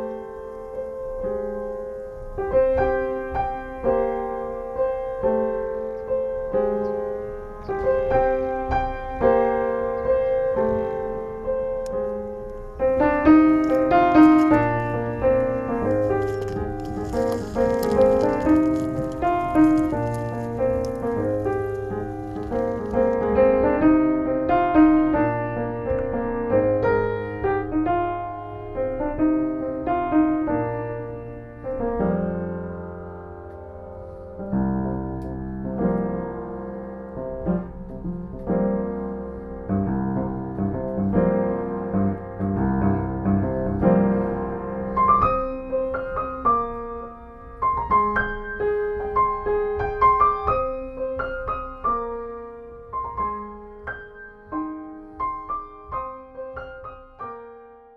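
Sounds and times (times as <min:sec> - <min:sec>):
piano music: 0:00.0 - 0:57.9.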